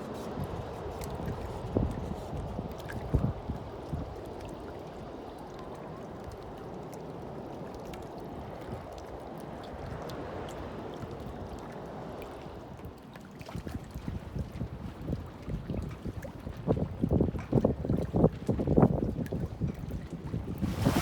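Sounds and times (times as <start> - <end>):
water rushing along hull: 0.0 - 21.0.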